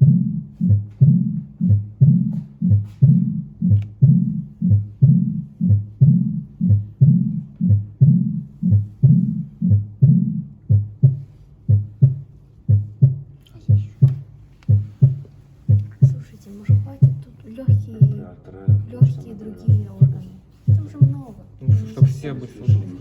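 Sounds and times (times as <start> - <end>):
heartbeat thumps: 0.0 - 23.0
low humming heart murmur: 0.0 - 23.0.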